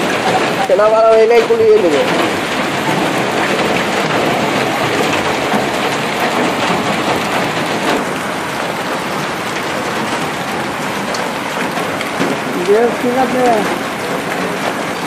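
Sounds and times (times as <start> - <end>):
hail pelting the ground: 0.0 - 15.0.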